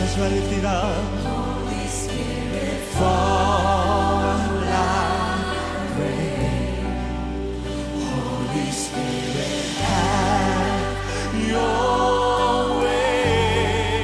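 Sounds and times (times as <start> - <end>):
people singing: 0.0 - 14.0
worship band chords: 0.0 - 14.0.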